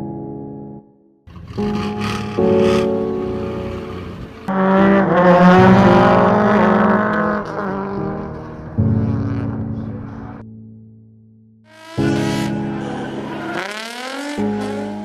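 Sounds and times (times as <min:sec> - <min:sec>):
car engine sound effect: 0:01.3 - 0:10.4, 0:11.7 - 0:15.0
intro music: 0:01.4 - 0:15.0.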